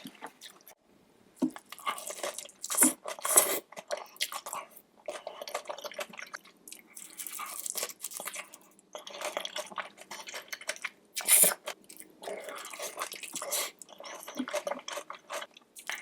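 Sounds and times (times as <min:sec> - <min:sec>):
wet chewing and crunching: 0:01.5 - 0:16.0.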